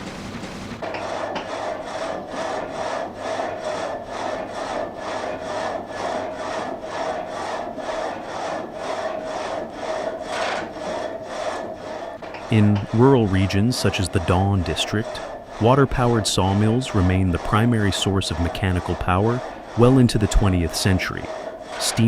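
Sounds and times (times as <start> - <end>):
frame saw cutting a log: 0.8 - 22.0.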